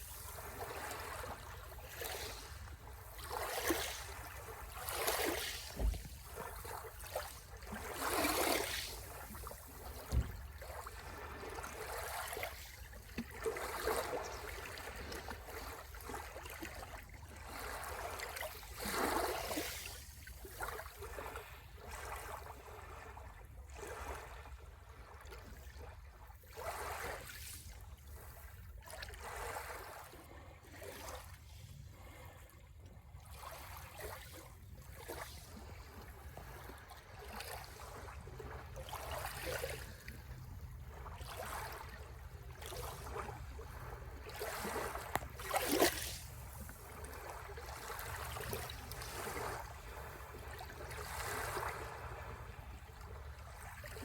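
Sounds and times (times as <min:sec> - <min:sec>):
small waves lapping at shore: 0:00.0 - 0:54.0.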